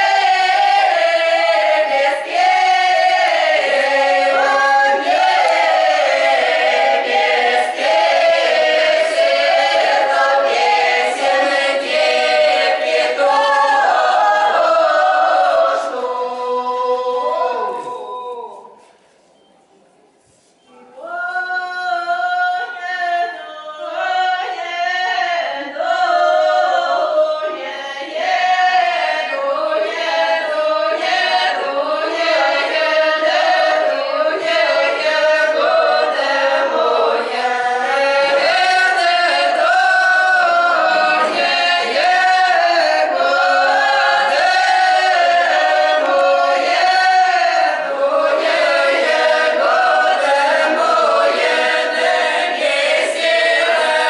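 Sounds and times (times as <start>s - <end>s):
mixed choir singing unaccompanied: 0.0s - 18.8s, 21.0s - 54.0s.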